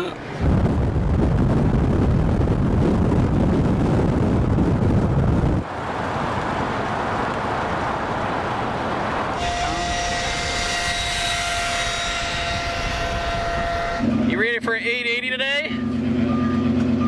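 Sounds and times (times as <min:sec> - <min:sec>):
vehicle low rumble: 0:00.0 - 0:17.0
wind buffeting microphone: 0:00.2 - 0:14.2.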